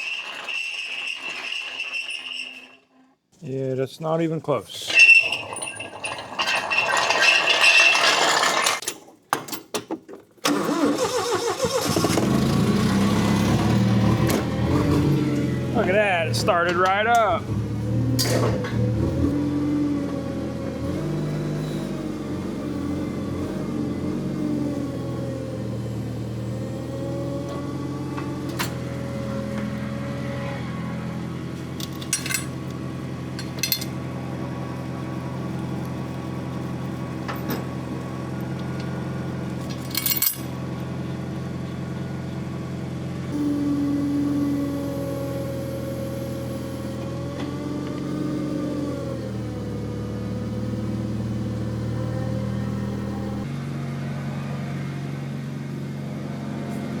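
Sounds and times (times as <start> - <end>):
forklift engine running: 10.4 - 57.0.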